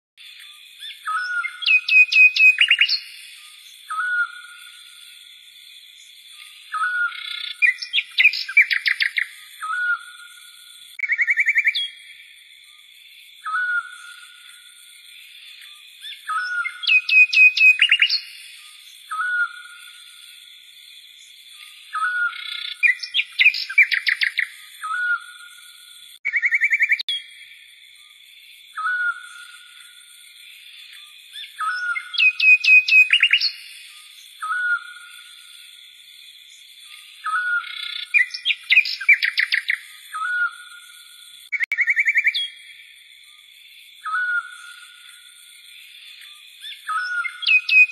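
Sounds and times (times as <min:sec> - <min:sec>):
bird-like chirps and whistled trills: 0:00.2 - 0:47.9.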